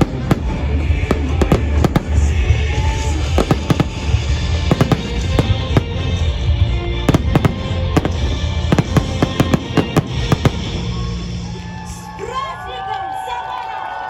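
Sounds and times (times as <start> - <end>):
firework shells bursting: 0.0 - 11.7
low rumble: 0.0 - 12.2
music playing: 0.0 - 13.2.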